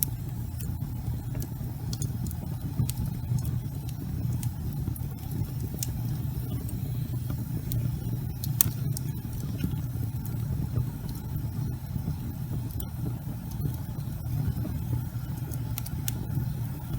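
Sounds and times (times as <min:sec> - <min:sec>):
fire crackling and popping: 0:00.0 - 0:16.9
wood fire rumbling: 0:00.0 - 0:16.9.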